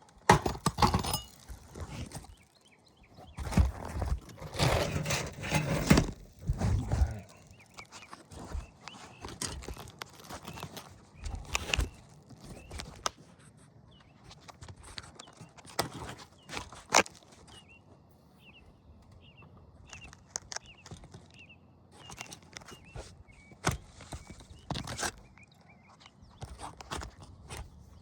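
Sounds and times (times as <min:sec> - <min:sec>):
scuffs and scrapes on a shingle roof: 0:00.0 - 0:28.0.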